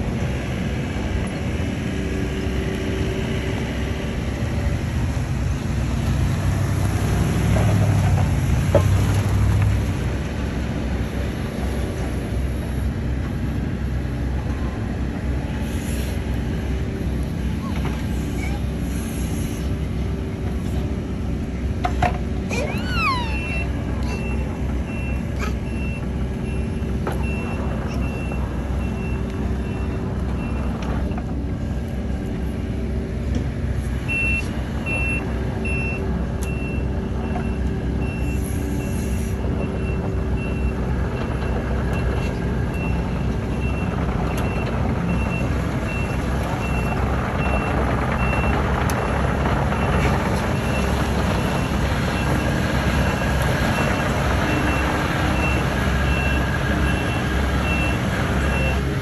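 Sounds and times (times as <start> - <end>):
excavator engine and tracks: 0.0 - 59.0.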